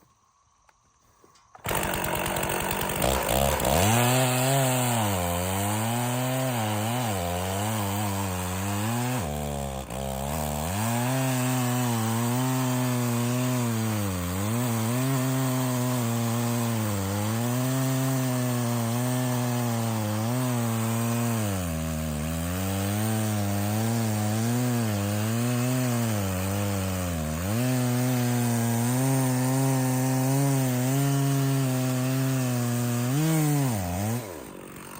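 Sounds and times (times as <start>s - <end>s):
chainsaw cutting log: 1.3s - 34.9s.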